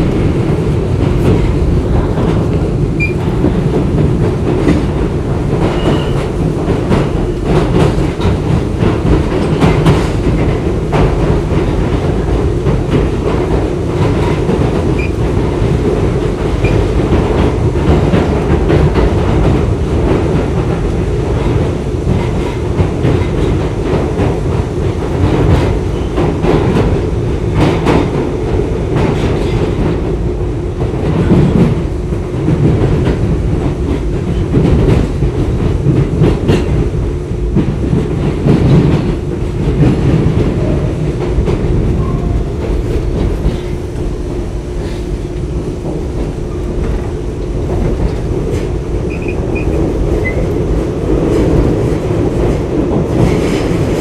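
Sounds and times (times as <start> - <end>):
subway car rumbling on track: 0.0 - 54.0.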